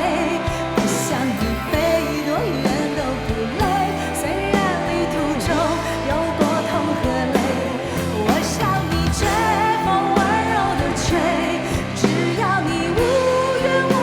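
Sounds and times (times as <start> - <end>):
pop-rock band music: 0.0 - 14.0.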